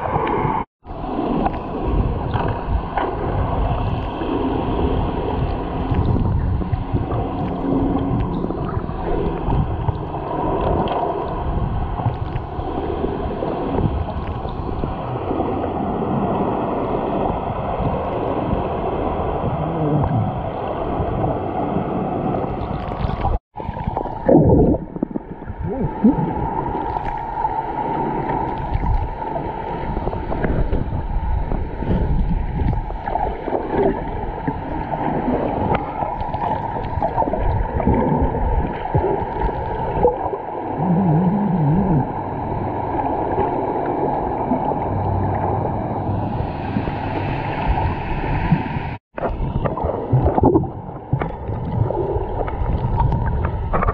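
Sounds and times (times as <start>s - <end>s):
muffled underwater rushing: 0.0s - 53.9s.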